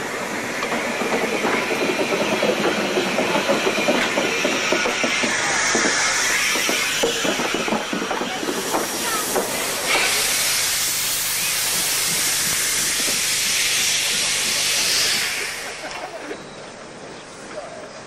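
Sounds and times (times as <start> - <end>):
loud steam blowing from drain cocks: 0.0 - 16.2
steam hissing: 0.0 - 16.4.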